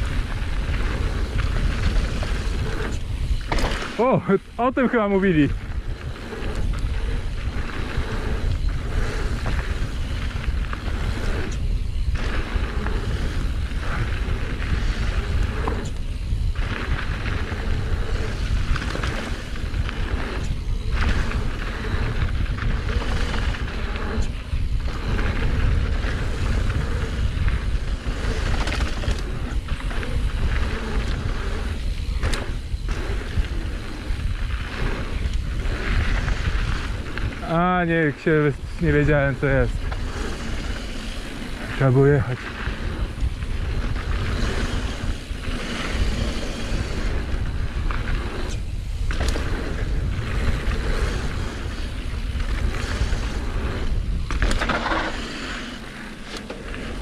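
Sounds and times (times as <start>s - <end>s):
bike rattling on rough ground: 0.0s - 57.0s
wind rumble on microphone: 0.0s - 57.0s.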